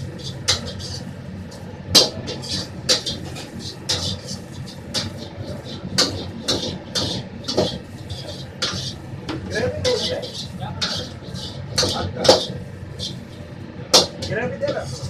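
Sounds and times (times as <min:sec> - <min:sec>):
hissing: 0:00.0 - 0:15.0
low kitchen rumble: 0:00.0 - 0:15.0
metal ladle striking a wok: 0:00.1 - 0:01.0, 0:01.9 - 0:13.3, 0:13.9 - 0:14.9.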